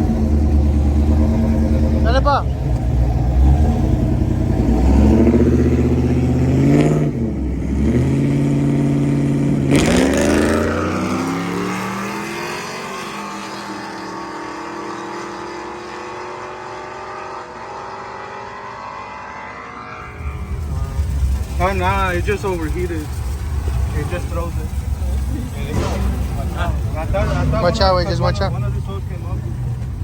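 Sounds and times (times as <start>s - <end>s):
car engine at full throttle: 0.0s - 30.0s.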